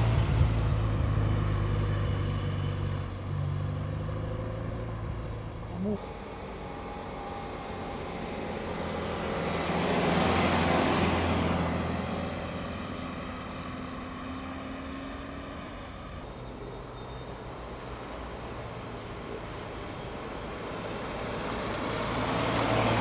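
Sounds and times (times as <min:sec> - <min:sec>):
car driving past: 0:00.0 - 0:23.0.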